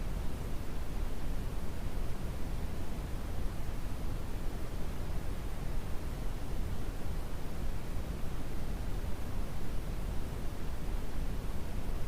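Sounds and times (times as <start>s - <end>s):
brown noise hiss: 0.0s - 12.0s.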